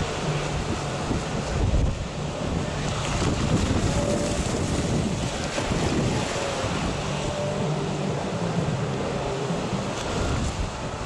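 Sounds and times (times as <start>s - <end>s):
rough sea surf breaking: 0.0s - 11.0s
wind buffeting microphone: 0.0s - 11.0s.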